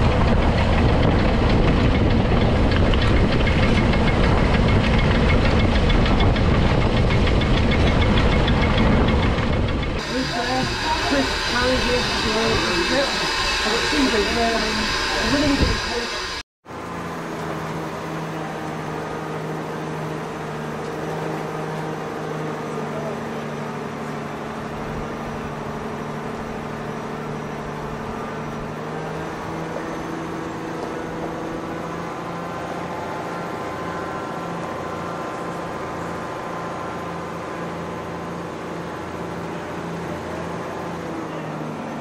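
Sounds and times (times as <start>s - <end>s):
off-road vehicle engine running: 0.0s - 42.0s.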